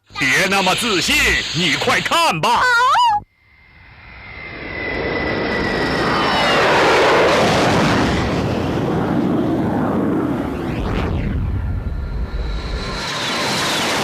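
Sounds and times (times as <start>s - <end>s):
jet-like aircraft rush: 0.0s - 2.3s, 3.4s - 14.0s.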